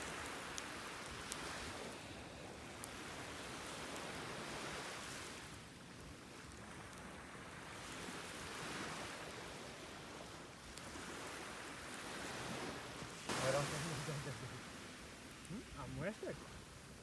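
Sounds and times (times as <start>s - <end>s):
surf washing on shore: 0.0s - 17.0s.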